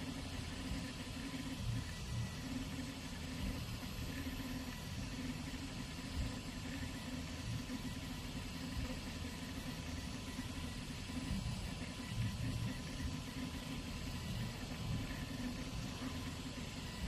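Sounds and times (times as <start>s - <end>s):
faint steady tones: 0.0s - 17.0s
laser engraver motors humming: 0.0s - 17.0s.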